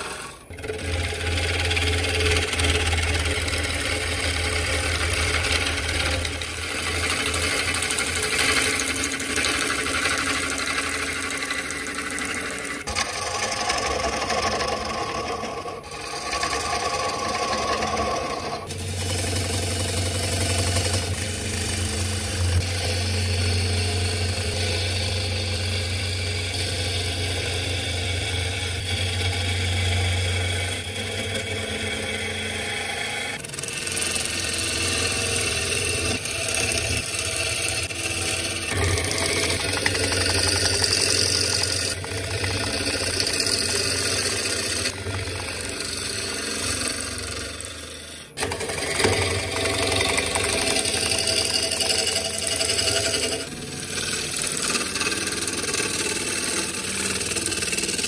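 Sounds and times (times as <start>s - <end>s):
gouge scraping spinning wood: 0.0s - 58.0s
lathe humming: 0.0s - 58.0s.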